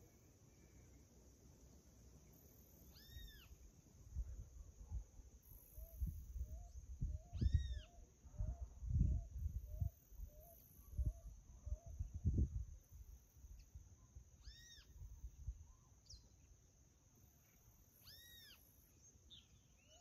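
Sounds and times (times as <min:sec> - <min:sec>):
soft chirp: 0:02.2 - 0:20.0.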